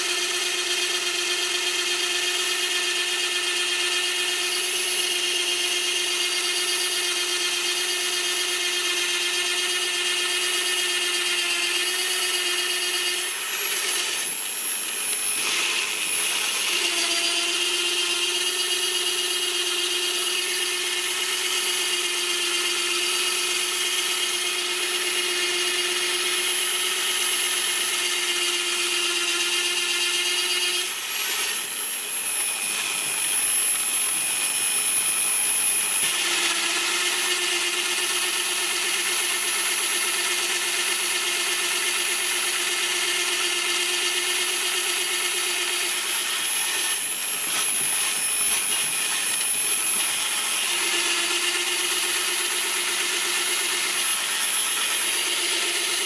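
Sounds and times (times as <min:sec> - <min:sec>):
drill bit cutting wood: 0:00.0 - 0:56.0
pillar drill motor hum and whine: 0:00.0 - 0:56.0.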